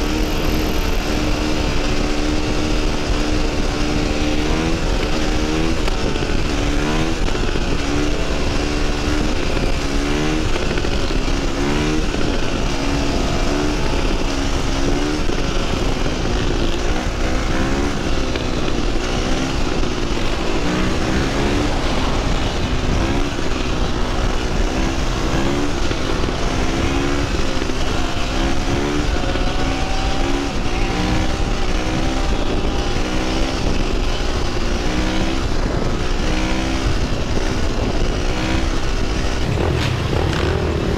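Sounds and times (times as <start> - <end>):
dirt bike engine revving: 0.0 - 40.9
wind noise on microphone: 0.0 - 40.9.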